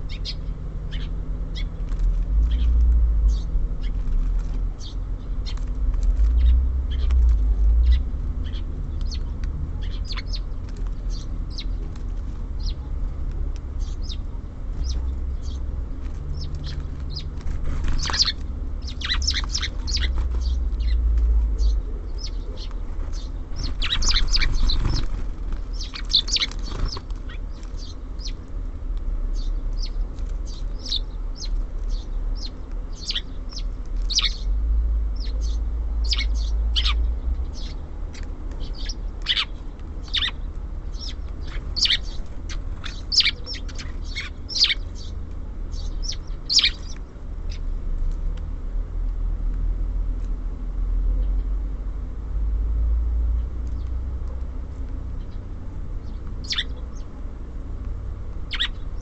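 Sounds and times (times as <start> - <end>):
low steady rumble: 0.0 - 59.0
songbirds chirping: 0.0 - 59.0.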